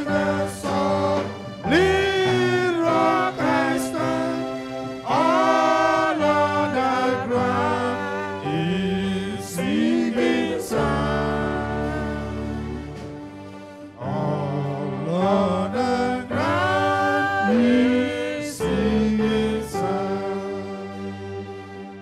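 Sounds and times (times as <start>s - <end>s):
men singing a hymn: 0.0s - 13.2s, 14.0s - 21.1s
electronic keyboard chords: 0.0s - 22.0s.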